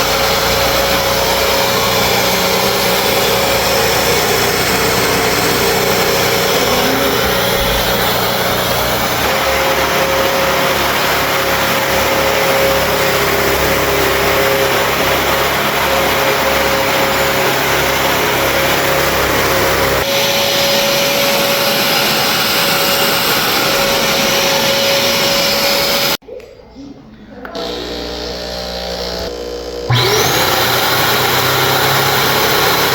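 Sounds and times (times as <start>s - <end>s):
vacuum cleaner motor whine: 0.0s - 26.2s, 27.5s - 32.9s.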